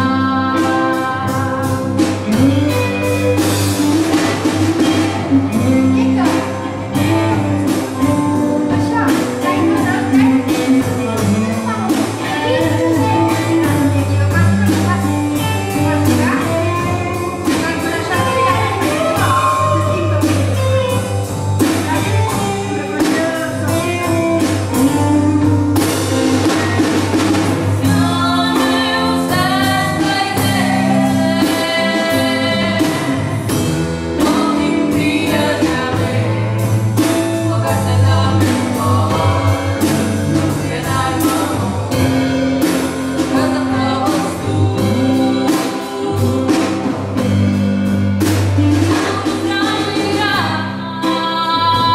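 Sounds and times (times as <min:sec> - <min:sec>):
woman singing: 0:00.0 - 0:47.6, 0:48.6 - 0:51.9
band accompaniment: 0:00.0 - 0:51.9
steady drum beat: 0:00.0 - 0:51.9.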